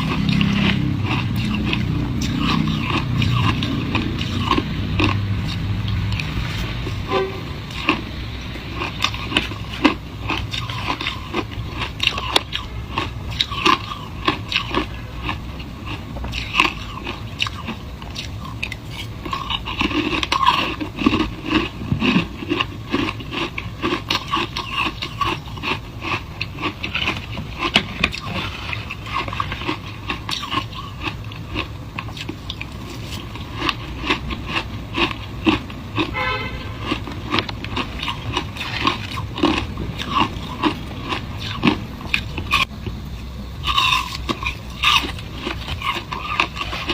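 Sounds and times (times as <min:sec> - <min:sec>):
ice being chewed: 0:00.0 - 0:42.8, 0:43.6 - 0:46.9.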